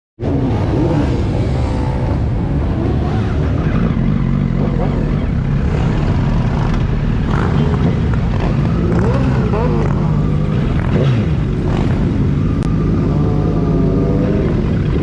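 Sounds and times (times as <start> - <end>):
motorcycle engines running: 0.2 - 15.0.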